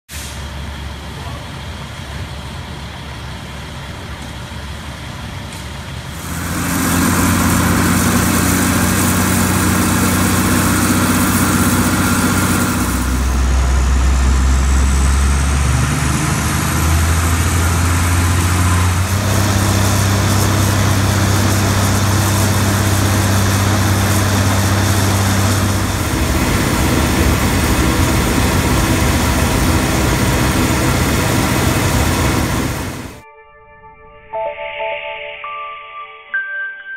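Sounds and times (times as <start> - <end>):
large engine humming: 0.1 - 33.2.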